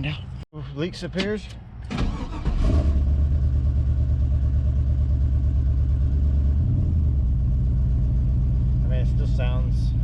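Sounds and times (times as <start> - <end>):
truck engine starting and idling: 1.2 - 10.0.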